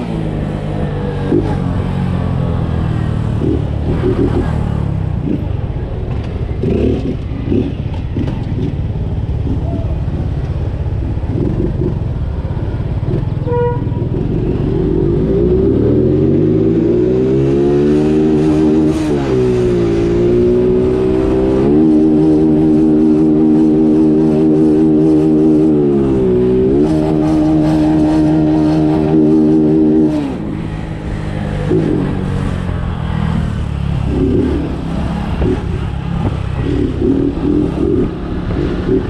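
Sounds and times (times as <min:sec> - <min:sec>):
motorcycle engine: 0:00.0 - 0:39.0.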